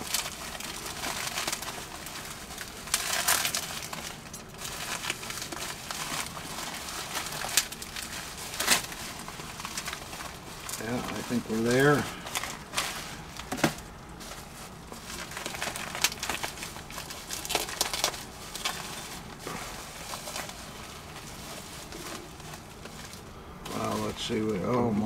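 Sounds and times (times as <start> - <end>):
bubble wrap crinkling: 0.0 - 25.0.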